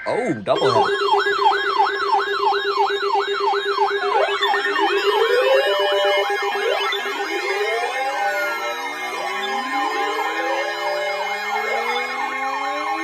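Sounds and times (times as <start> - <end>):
weather alert radio alarms: 0.6 - 13.0.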